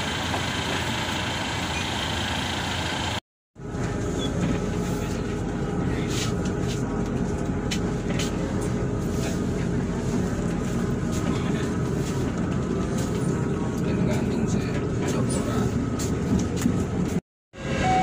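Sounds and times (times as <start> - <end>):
coach engine drone: 0.0 - 18.0
road noise: 0.0 - 18.0.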